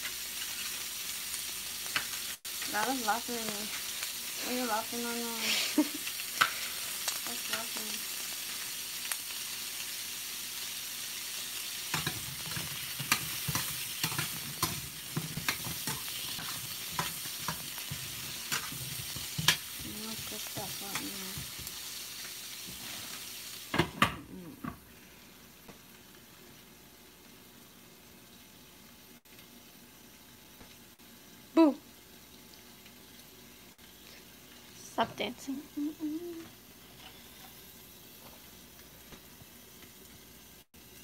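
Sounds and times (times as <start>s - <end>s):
vegetables sizzling in a pan: 0.0s - 41.0s.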